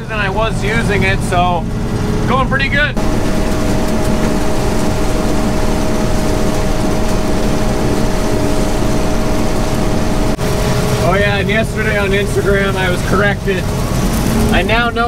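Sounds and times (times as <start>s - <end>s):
combine harvester engine drone: 0.0s - 15.0s
machinery whine: 0.0s - 15.0s.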